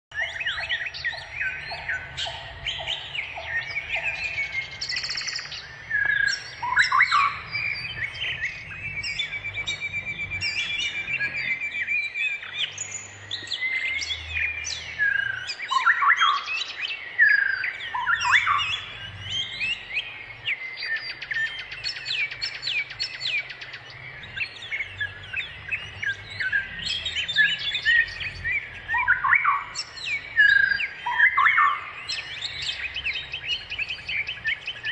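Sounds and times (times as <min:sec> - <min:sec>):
small birds chirping and twittering: 0:00.1 - 0:34.9.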